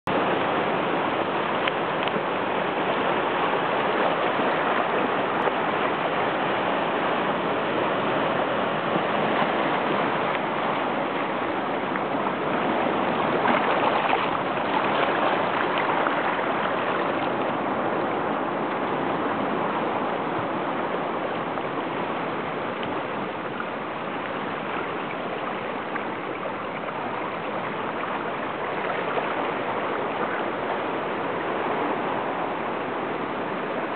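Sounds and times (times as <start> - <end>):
seawater washing over rocks: 0.1 - 33.9.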